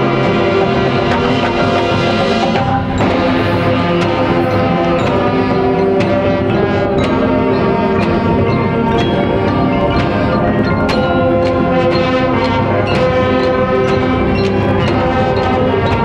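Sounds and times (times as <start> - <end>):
horns holding chords: 0.0 - 16.0
percussion strikes: 0.0 - 16.0
ringing mallet percussion: 0.0 - 16.0.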